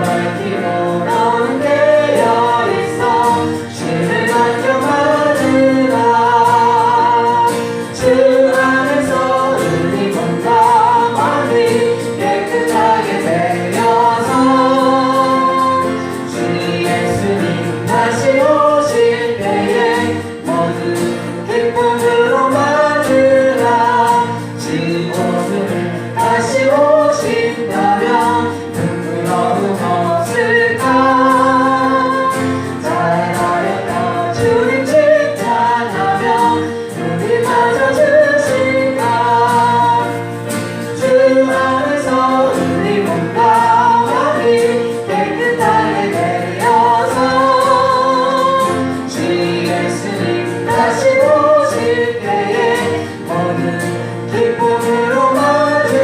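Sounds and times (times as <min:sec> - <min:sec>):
congregation singing a hymn: 0:00.0 - 0:56.0
sustained instrumental accompaniment: 0:00.0 - 0:56.0.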